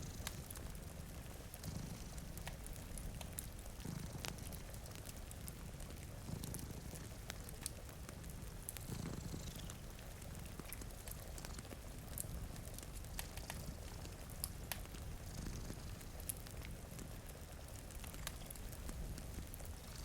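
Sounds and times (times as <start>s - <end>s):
cat purring: 0.0s - 20.0s
wood fire crackling: 0.0s - 20.0s.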